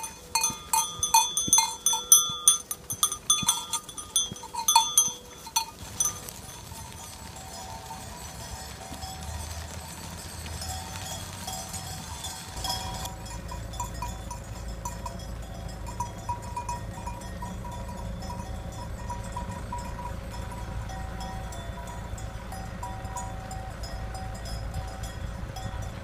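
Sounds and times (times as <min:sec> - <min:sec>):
low rumble of car: 0:00.0 - 0:26.0
sheep bells clinking: 0:00.0 - 0:26.0.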